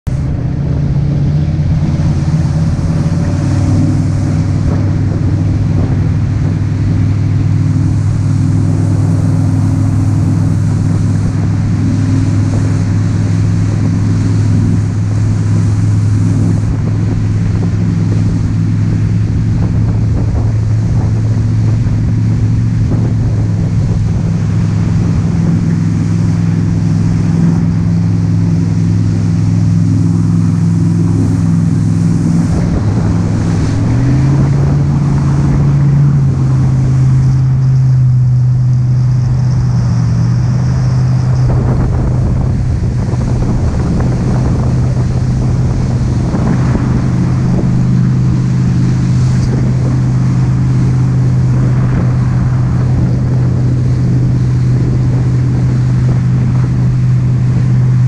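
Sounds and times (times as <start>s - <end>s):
motorboat engine drone: 0.0s - 58.0s
rushing water: 0.0s - 58.0s
wind noise: 0.0s - 58.0s.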